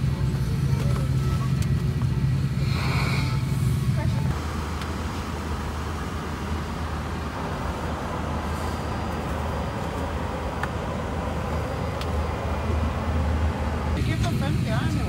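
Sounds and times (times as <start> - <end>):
aircraft cabin hum and airflow hiss: 0.0 - 15.0.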